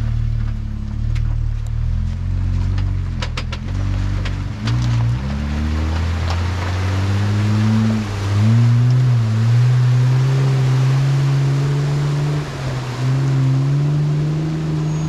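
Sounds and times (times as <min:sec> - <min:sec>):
road or wind noise: 0:00.0 - 0:15.0
vehicle engine humming: 0:00.0 - 0:15.0.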